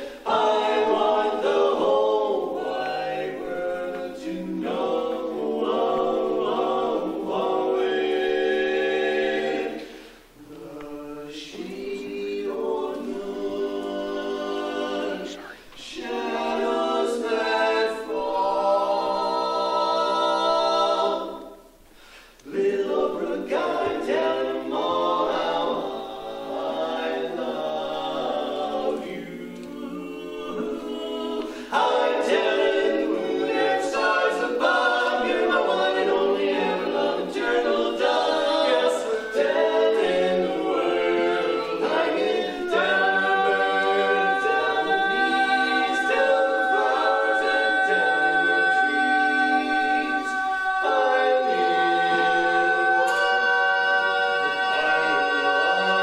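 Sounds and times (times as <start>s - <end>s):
male quartet singing a cappella: 0.0s - 56.0s.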